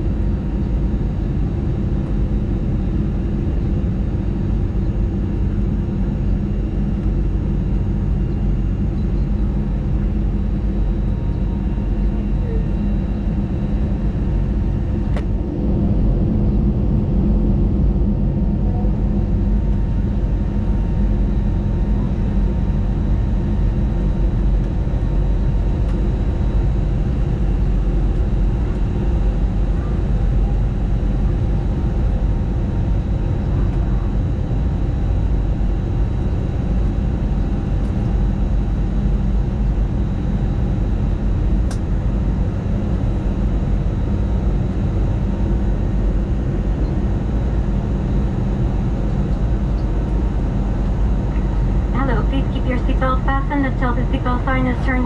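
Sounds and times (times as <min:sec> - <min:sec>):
faint engine whine: 0:00.0 - 0:55.0
jet engine rumble in cabin: 0:00.0 - 0:55.0.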